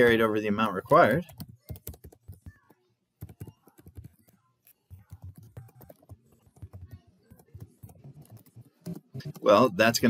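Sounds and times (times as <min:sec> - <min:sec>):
computer keyboard typing: 0:00.9 - 0:09.6.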